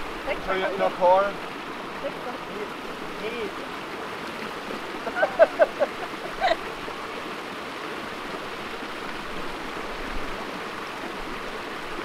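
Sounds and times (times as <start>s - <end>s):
mountain stream and waterfall: 0.0s - 12.0s.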